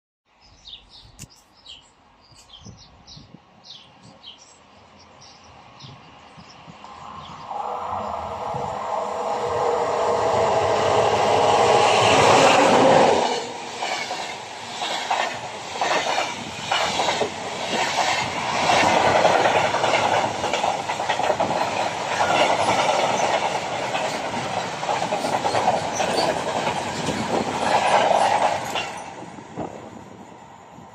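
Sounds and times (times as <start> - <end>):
electric locomotive humming: 3.5 - 30.9.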